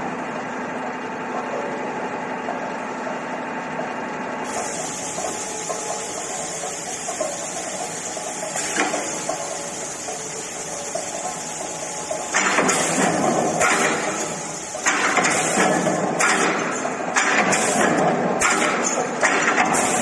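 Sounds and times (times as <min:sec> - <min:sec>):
punch press machine hum: 0:00.0 - 0:20.0.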